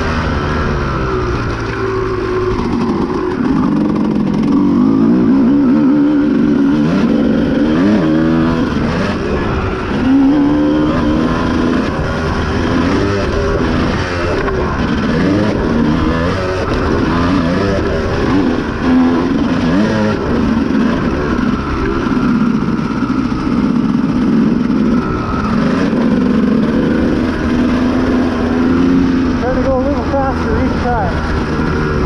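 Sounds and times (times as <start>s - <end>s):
dirt bike engine revving: 0.0s - 32.0s
wind and tyre noise: 0.0s - 32.0s.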